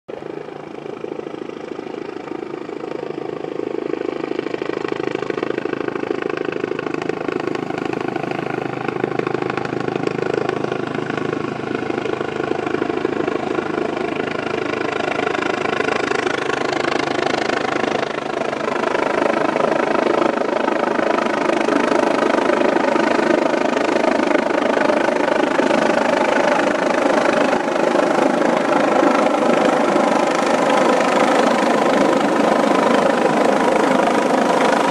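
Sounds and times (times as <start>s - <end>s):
helicopter rotor and turbine: 0.1s - 34.9s.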